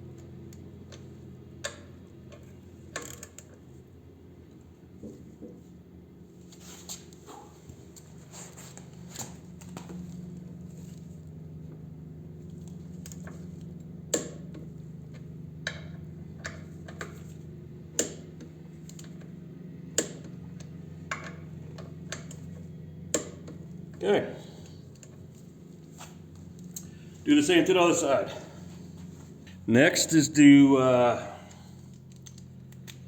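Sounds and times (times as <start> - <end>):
steady low hum: 3.7 - 33.0.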